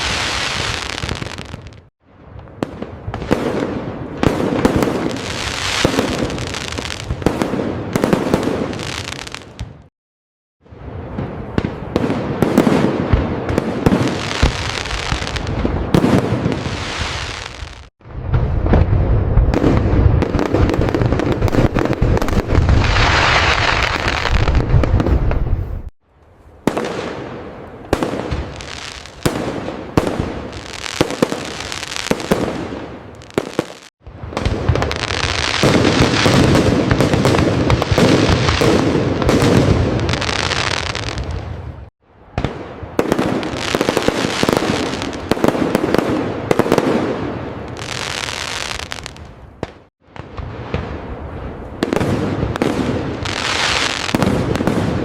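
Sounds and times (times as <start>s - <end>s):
fireworks bursting and crackling: 0.0s - 9.9s, 10.7s - 25.9s, 26.5s - 55.0s.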